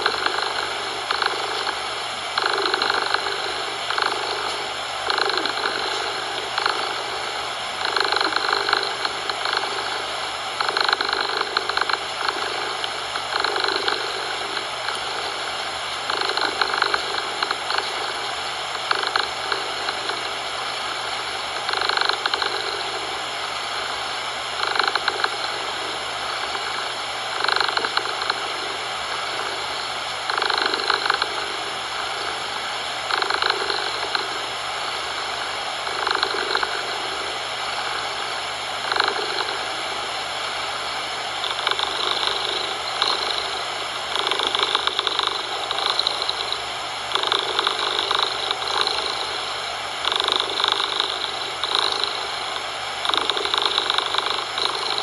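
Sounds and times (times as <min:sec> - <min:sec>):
cat purring: 0:00.0 - 0:55.0
steady hiss of noise: 0:00.0 - 0:55.0.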